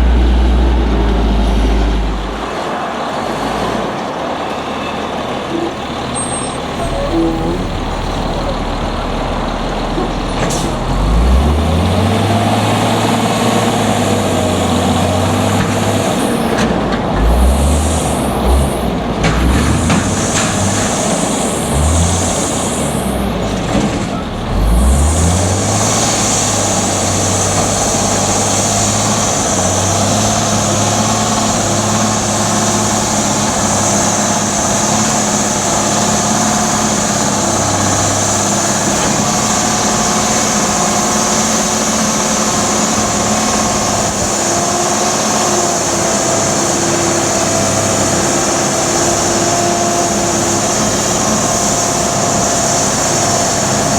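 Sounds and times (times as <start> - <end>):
garbage truck engine: 0.0 - 53.9.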